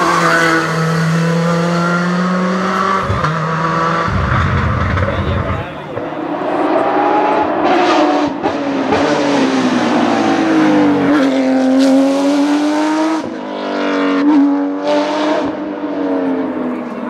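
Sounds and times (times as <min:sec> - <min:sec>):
race car engine passing: 0:00.0 - 0:17.0.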